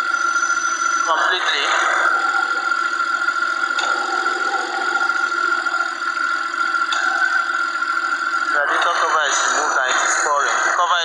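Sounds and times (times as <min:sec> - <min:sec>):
high whine: 0:00.0 - 0:11.0.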